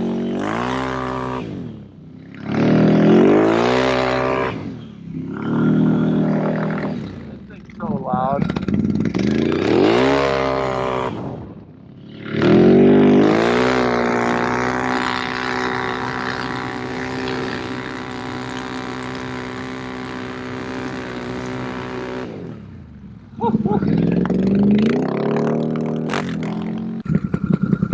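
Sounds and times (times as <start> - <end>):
quad bike engine revving: 0.0 - 27.9.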